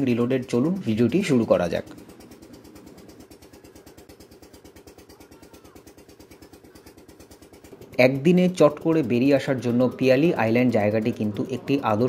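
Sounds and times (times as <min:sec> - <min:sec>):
motor boat engine chugging: 0:00.0 - 0:12.0.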